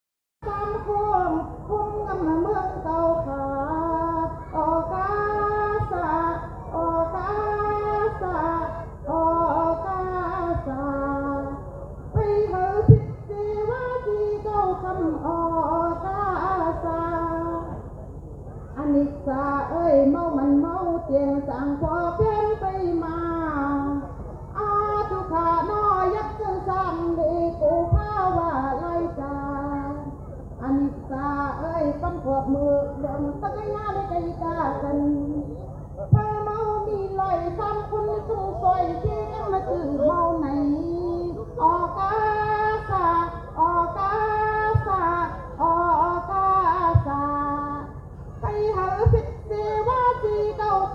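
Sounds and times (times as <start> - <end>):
woman singing into microphone: 0.4 - 17.9, 18.7 - 50.9
steady low hum: 0.4 - 50.9.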